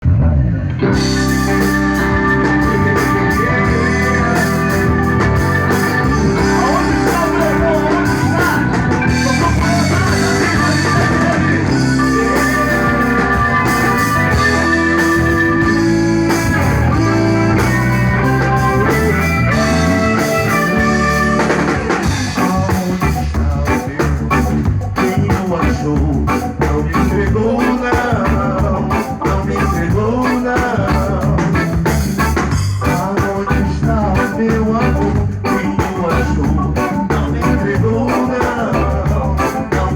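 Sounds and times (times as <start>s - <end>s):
band playing reggae-pop: 0.0s - 39.9s.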